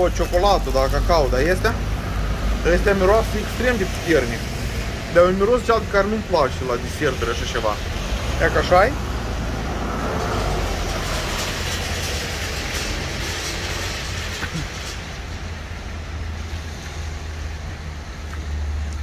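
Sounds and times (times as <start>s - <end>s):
passing vehicle rushing: 0.0s - 18.8s.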